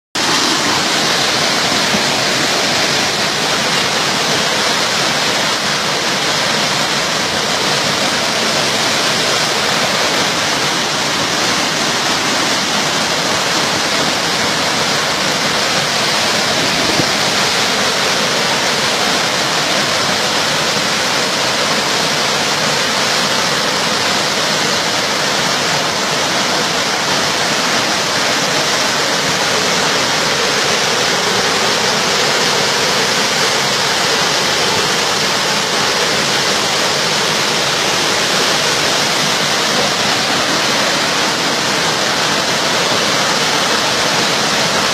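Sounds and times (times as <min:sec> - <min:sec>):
floodwater rushing: 0:00.2 - 0:44.9.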